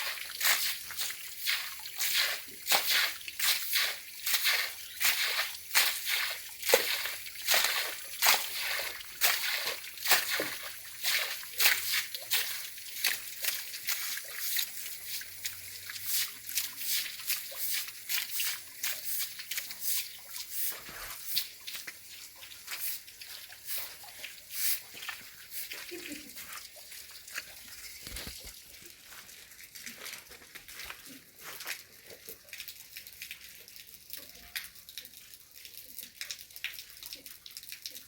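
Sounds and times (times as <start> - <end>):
water sloshing and splashing: 0.0 - 38.0.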